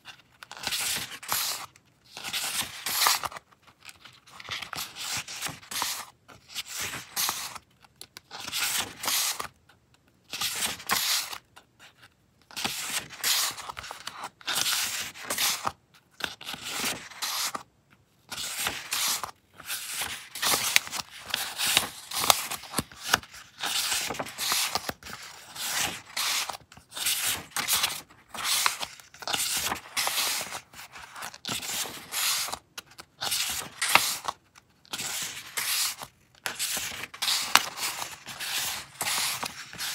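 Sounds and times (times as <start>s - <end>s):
paper rustling and crinkling: 0.1s - 9.6s, 10.3s - 17.7s, 18.3s - 39.9s.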